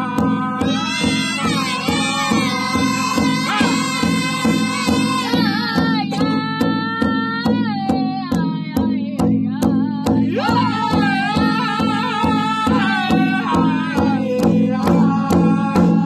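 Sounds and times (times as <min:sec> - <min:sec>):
high-pitched voices singing: 0:00.0 - 0:16.0
steady drumbeat: 0:00.0 - 0:16.0.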